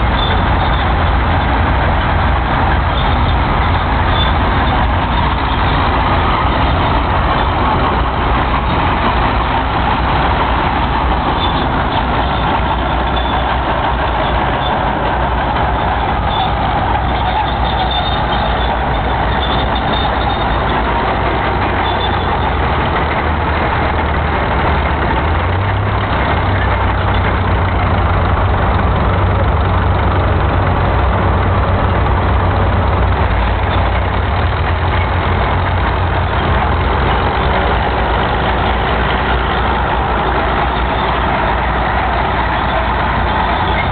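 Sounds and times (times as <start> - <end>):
bulldozer diesel engines droning: 0.0 - 43.9.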